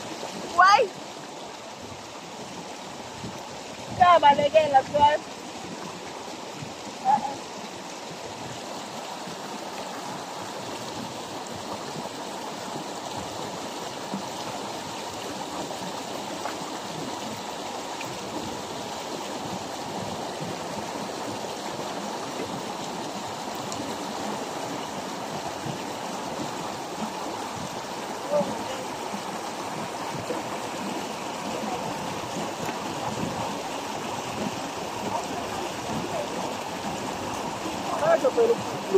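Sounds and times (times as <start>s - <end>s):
stream babbling over rocks: 0.0s - 38.9s.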